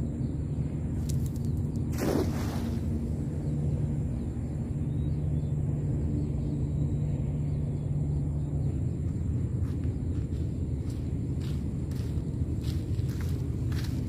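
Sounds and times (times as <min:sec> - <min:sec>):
low hum with held tones: 0:00.0 - 0:14.0.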